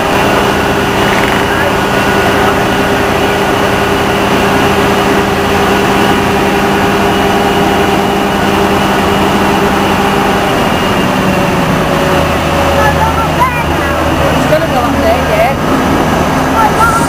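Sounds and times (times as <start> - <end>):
diesel power pack droning: 0.0 - 17.0.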